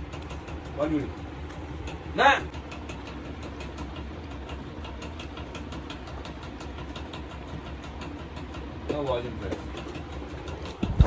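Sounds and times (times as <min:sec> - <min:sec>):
fast even ticking: 0:00.0 - 0:11.0
low mechanical hum: 0:00.0 - 0:11.0.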